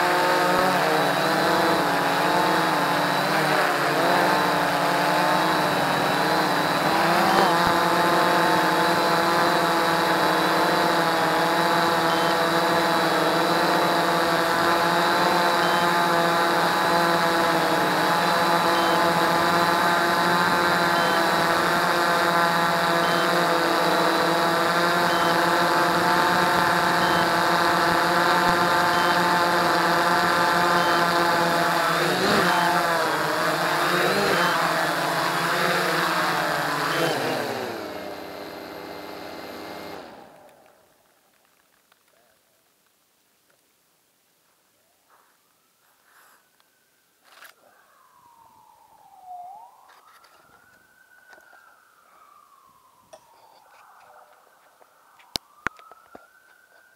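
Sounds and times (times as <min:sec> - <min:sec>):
drone propellers whining: 0:00.0 - 0:40.9, 0:47.4 - 0:56.9.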